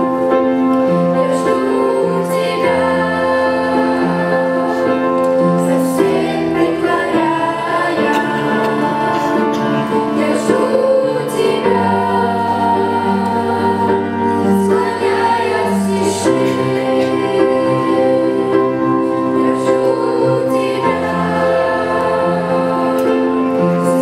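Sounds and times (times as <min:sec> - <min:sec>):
children's choir singing: 0:00.0 - 0:24.0
instrumental accompaniment: 0:00.0 - 0:24.0.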